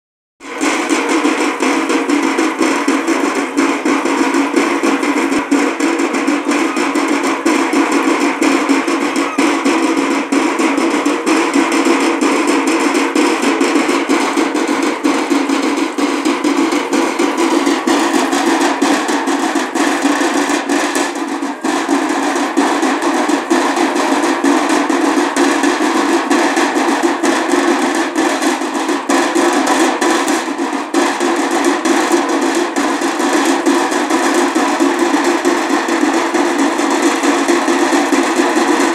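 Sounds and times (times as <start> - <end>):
procession drumming: 0.4 - 38.9.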